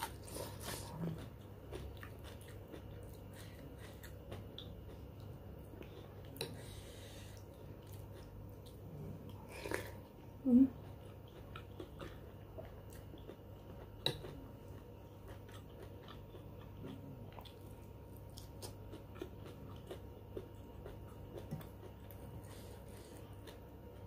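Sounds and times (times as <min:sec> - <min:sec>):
soft chewing: 0:00.0 - 0:24.0.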